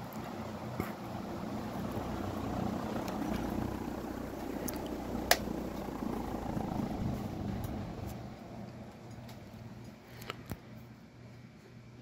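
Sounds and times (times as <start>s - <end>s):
ceiling fan running: 0.0s - 12.0s.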